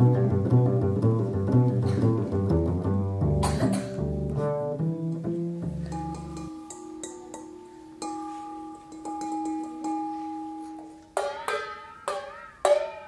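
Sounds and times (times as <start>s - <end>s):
bright plucked notes wavering: 0.0s - 13.0s
plucked ringing notes: 0.0s - 13.0s.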